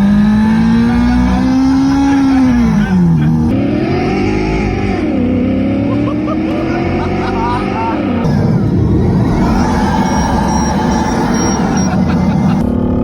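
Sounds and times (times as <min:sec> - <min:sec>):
simulated engine sound: 0:00.0 - 0:13.0.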